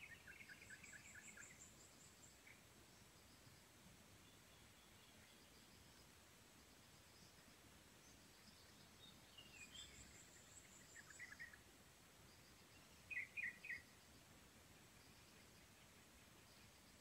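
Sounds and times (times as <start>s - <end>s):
birds chirping: 0.0s - 6.2s, 6.8s - 17.0s.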